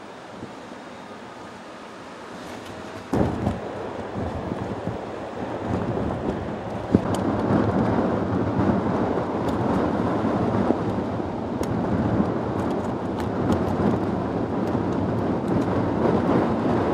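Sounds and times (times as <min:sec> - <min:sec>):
wind buffeting microphone: 0:02.3 - 0:16.9.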